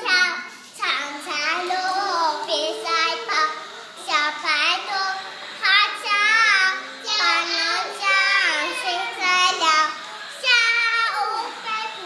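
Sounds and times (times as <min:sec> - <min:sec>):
girl singing: 0:00.0 - 0:12.0.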